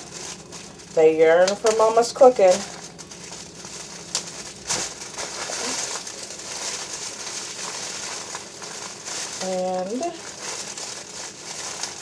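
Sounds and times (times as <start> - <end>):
plastic bag crinkling: 0.0 - 12.0
sharp plastic crackles: 0.0 - 12.0.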